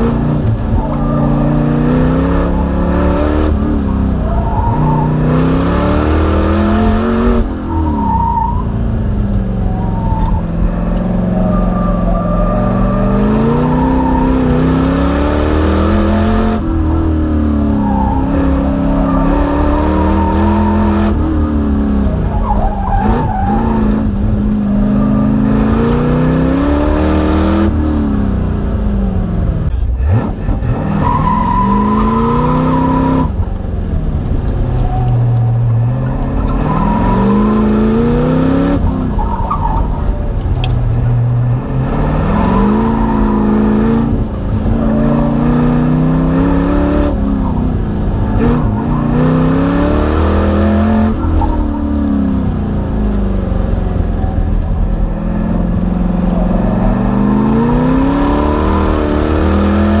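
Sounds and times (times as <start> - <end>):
car engine revving: 0.0 - 60.0
tire squeals: 0.6 - 27.1, 30.7 - 33.6, 34.5 - 53.1, 53.7 - 60.0.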